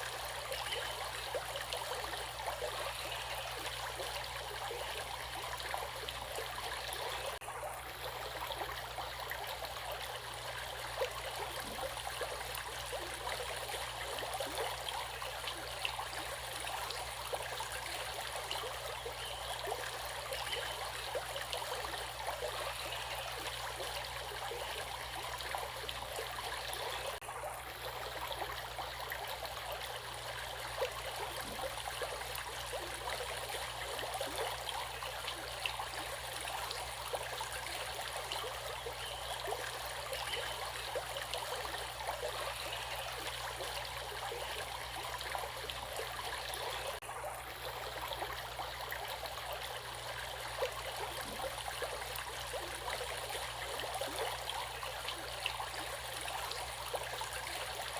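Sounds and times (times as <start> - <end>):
stream water babbling: 0.0 - 57.9.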